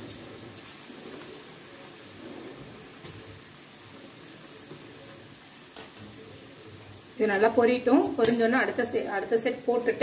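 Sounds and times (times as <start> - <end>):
batter deep-frying in oil: 0.0 - 10.0.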